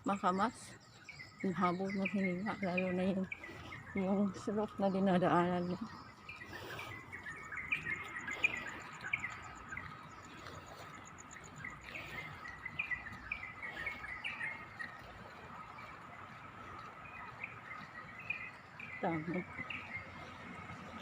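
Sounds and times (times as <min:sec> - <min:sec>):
small birds chirping: 0:00.0 - 0:20.7.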